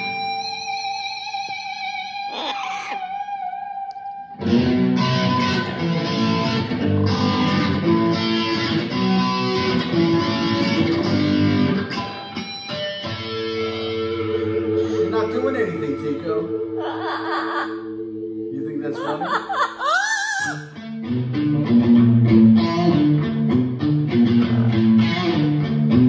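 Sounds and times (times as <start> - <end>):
electric guitar through small amp: 0.0 - 19.4, 20.4 - 26.0.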